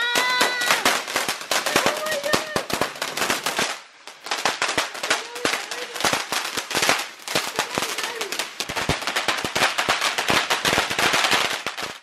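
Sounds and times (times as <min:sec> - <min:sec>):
firework crackling pops: 0:00.0 - 0:12.0.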